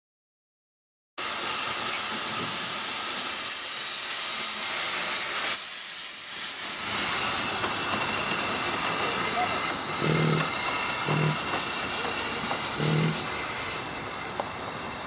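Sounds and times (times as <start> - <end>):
steam locomotive hissing: 1.2 - 15.0.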